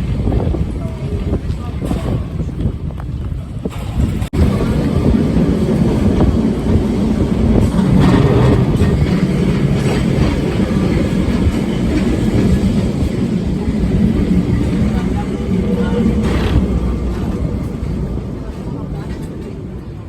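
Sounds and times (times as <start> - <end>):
tram rumbling on rails: 0.0 - 20.0
wheels clattering over track: 0.3 - 19.8.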